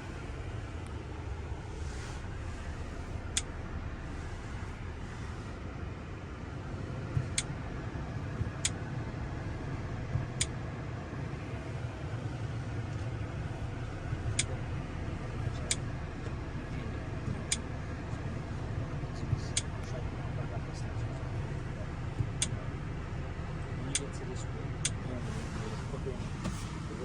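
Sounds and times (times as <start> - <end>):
low vehicle rumble: 0.0 - 27.0.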